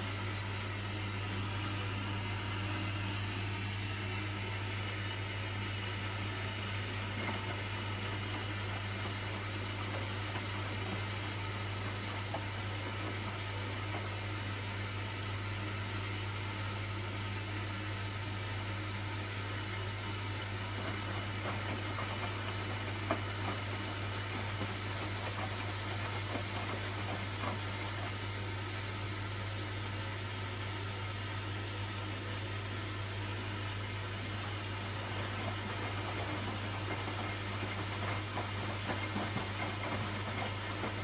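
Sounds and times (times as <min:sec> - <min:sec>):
washing machine humming: 0:00.0 - 0:41.0.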